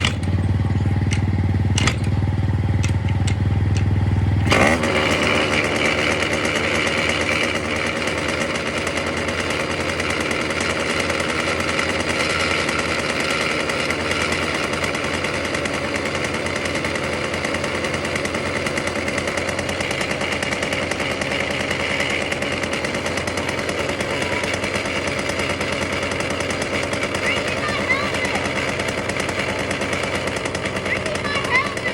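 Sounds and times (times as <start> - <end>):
car engine cranking and starting: 0.0 - 31.9.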